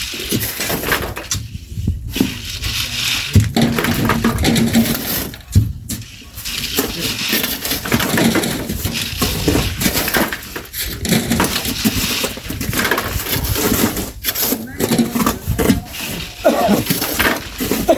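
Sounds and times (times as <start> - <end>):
shovels scraping sand and gravel: 0.0 - 17.9.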